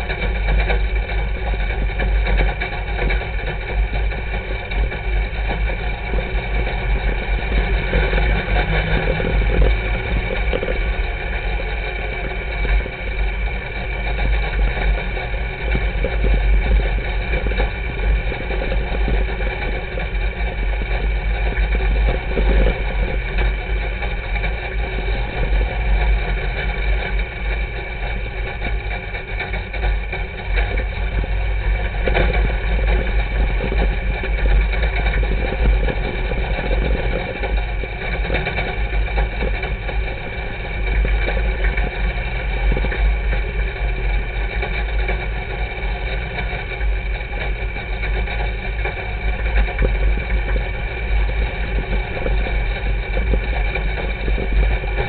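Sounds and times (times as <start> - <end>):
race car engine running: 0.0 - 55.0.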